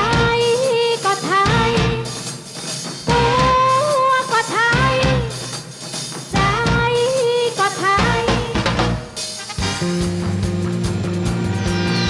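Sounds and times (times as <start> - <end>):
drum kit: 0.0 - 12.0
live band playing pop song: 0.0 - 12.0.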